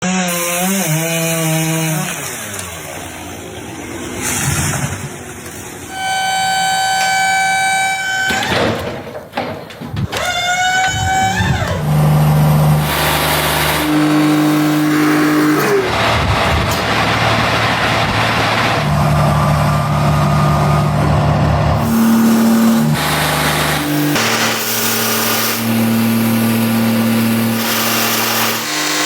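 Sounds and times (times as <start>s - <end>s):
saw cutting log rushing: 0.0s - 8.5s, 10.1s - 20.8s, 21.7s - 29.0s
sawmill engine running: 0.0s - 29.0s.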